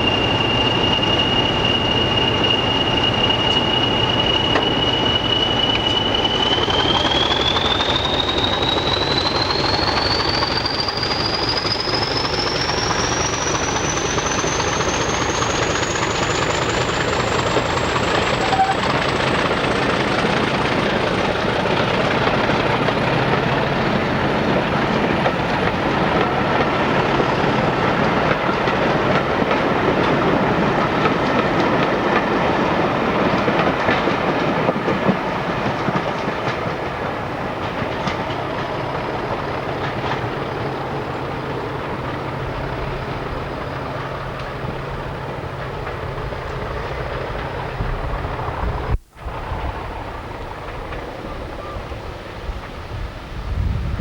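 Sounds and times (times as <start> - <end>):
diesel train running: 0.0 - 54.0.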